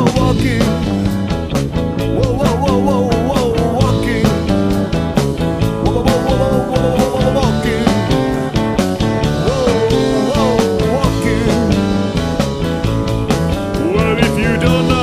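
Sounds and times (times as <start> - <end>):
drums keeping a steady beat: 0.0 - 15.0
electric guitar and bass: 0.0 - 15.0
sliding bending lead guitar line: 0.0 - 15.0.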